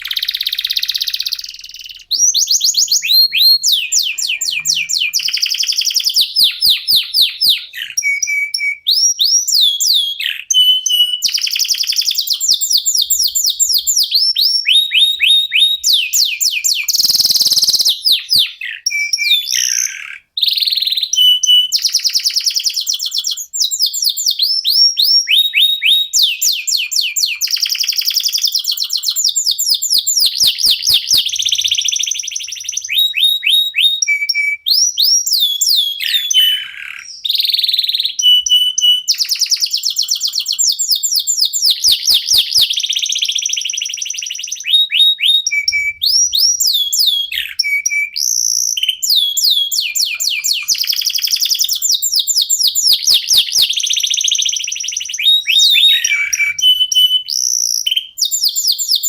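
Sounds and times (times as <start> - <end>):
canaries singing trills: 0.0 - 59.0.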